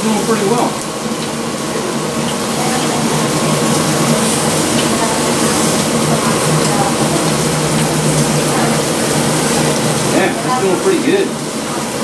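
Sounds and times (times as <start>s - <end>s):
fan humming: 0.0s - 12.0s
food sizzling on grill plate: 0.0s - 12.0s.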